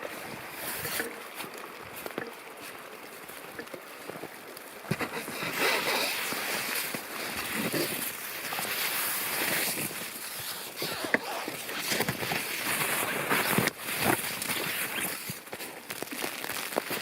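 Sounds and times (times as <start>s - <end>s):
rushing stream: 0.0s - 17.0s.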